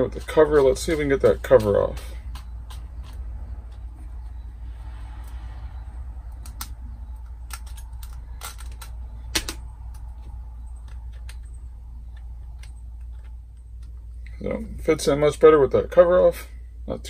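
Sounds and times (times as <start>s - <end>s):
low hum: 0.0s - 15.5s.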